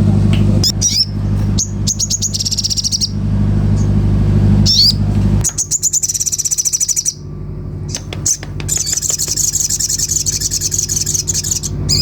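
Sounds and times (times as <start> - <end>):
songbird chirping and trilling: 0.0 - 12.0
steady low hum: 0.0 - 12.0.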